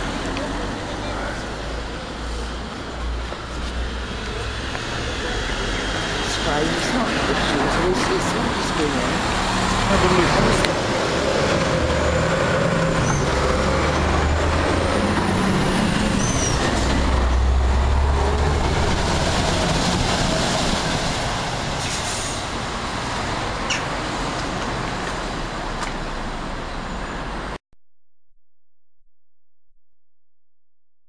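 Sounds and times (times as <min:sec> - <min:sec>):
heavy lorry passing: 0:00.0 - 0:27.6
road noise: 0:00.0 - 0:27.6.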